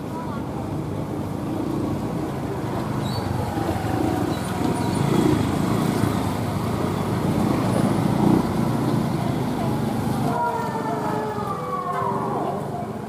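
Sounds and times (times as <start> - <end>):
car engines passing: 0.0 - 13.0
motorcycle engines passing: 0.0 - 13.0.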